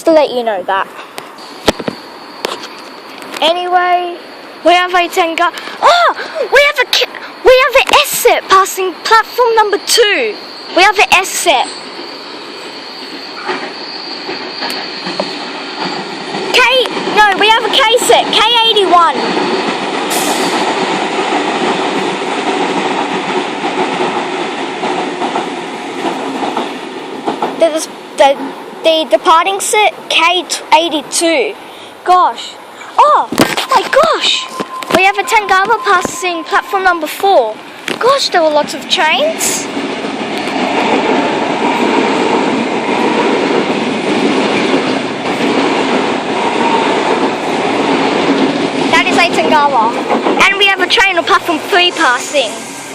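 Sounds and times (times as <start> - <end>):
train passing with wheel noise: 0.0 - 52.9.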